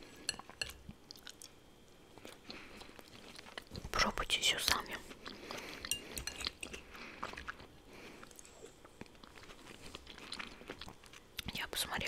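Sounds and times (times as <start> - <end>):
chewing food: 0.0 - 4.0, 4.7 - 11.6.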